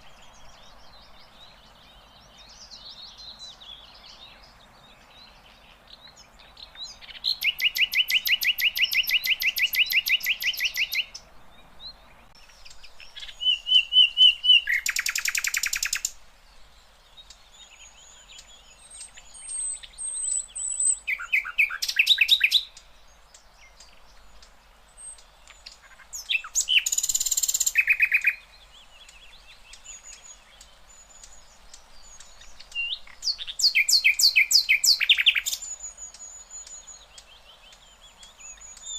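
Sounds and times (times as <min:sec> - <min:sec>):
bird singing trilled phrases: 0:00.0 - 0:38.9.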